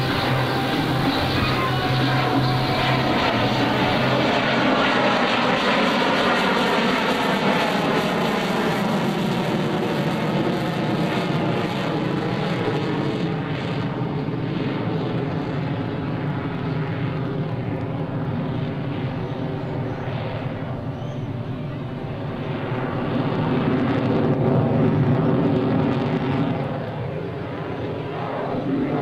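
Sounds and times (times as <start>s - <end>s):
jet engine roaring: 0.0s - 29.0s.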